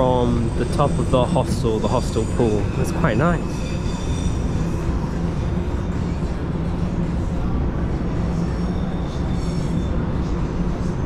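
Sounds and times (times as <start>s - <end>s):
heavy road traffic rumble: 0.0s - 11.0s.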